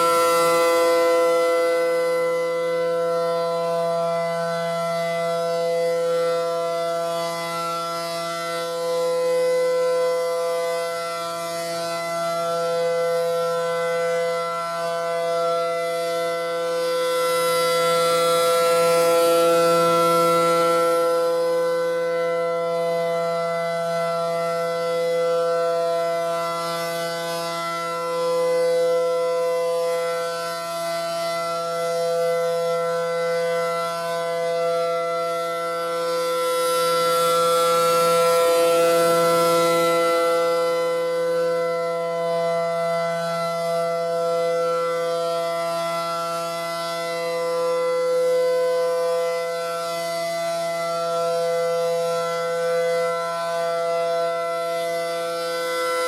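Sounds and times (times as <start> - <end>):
rotating siren steady tone: 0.0 - 56.0.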